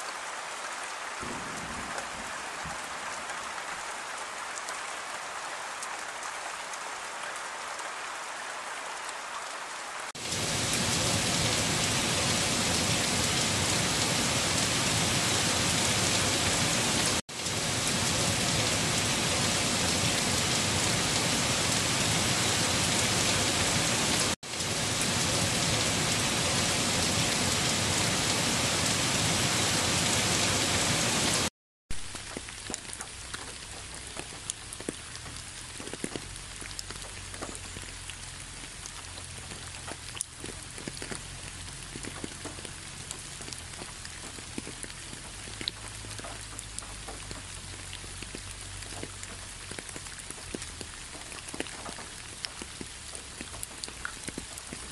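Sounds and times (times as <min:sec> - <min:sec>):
heavy rain: 0:00.0 - 0:54.9
raindrops ticking: 0:10.2 - 0:54.9.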